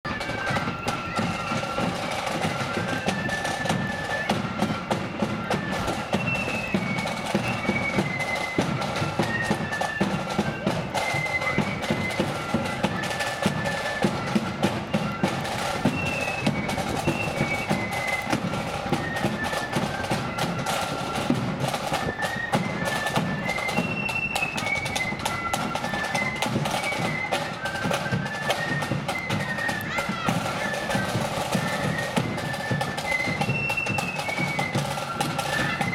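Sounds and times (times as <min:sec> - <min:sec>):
flute melody: 0:00.0 - 0:35.9
snare drums: 0:00.1 - 0:35.9.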